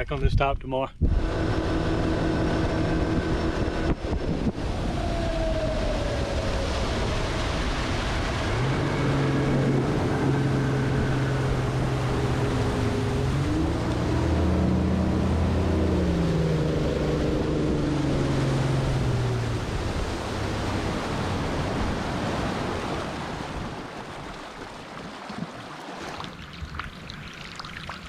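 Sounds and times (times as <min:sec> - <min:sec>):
boat motor humming: 0:01.0 - 0:28.0
wind and water rushing: 0:01.0 - 0:28.0.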